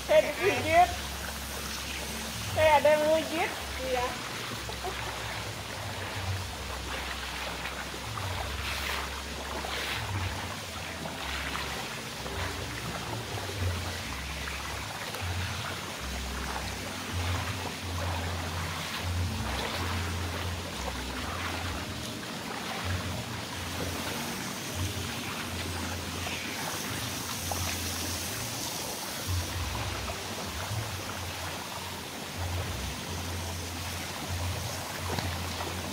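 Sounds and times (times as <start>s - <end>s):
water trickling and splashing: 0.0s - 35.9s.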